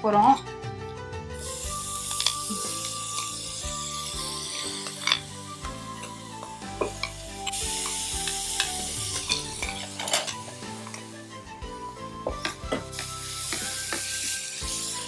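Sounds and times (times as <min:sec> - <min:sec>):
paste sizzling in hot oil: 0:01.4 - 0:15.0.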